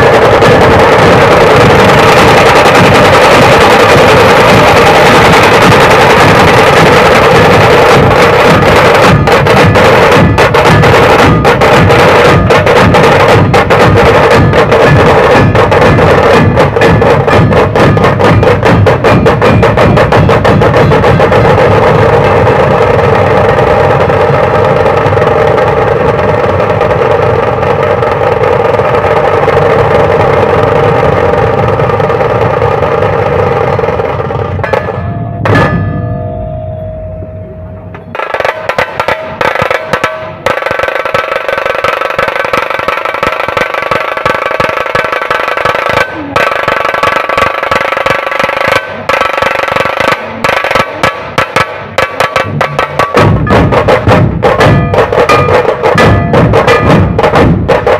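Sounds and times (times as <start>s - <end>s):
fast sharp drum strokes: 0.0s - 36.1s, 38.1s - 57.9s
massed barrel drums drumming: 0.0s - 36.5s, 37.8s - 57.9s.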